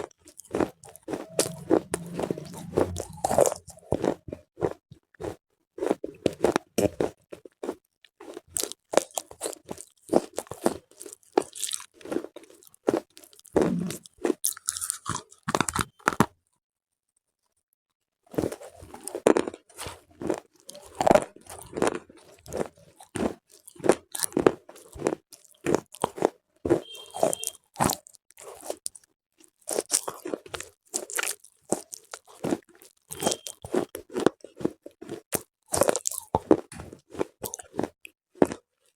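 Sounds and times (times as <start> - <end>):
crunching and chewing: 0.0 - 16.4, 18.3 - 38.9.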